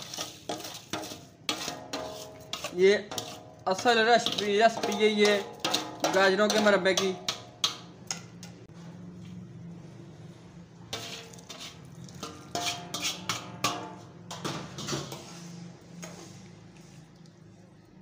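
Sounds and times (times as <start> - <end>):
metal spoon scraping a pot: 0.0 - 8.6, 10.8 - 16.8.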